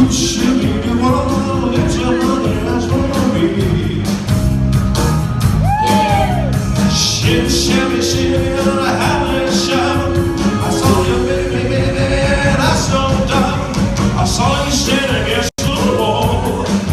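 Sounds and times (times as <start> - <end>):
man singing: 0.0 - 4.4, 6.8 - 16.9
rock and roll band playing: 0.0 - 16.9.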